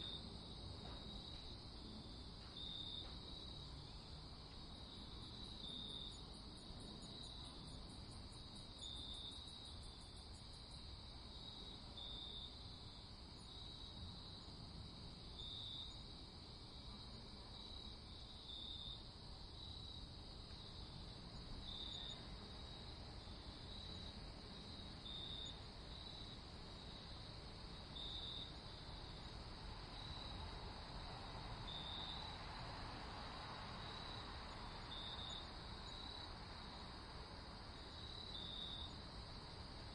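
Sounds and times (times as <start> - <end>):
crickets chirping: 0.0 - 39.9
high insect trill: 0.0 - 39.9.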